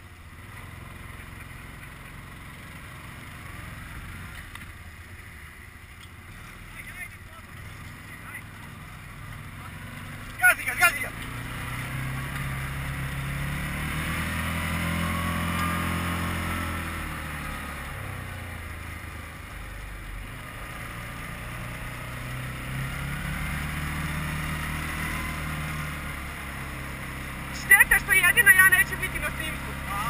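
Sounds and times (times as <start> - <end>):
quad bike engine revving: 0.0 - 30.0.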